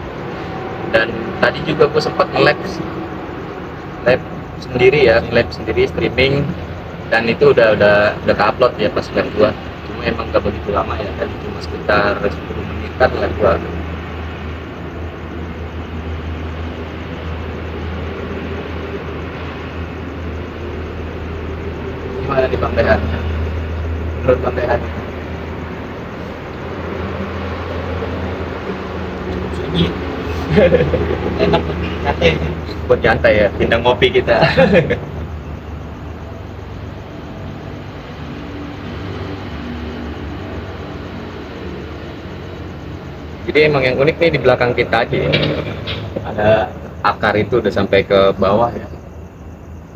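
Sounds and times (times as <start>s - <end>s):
traffic rumble and hiss: 0.0s - 49.9s.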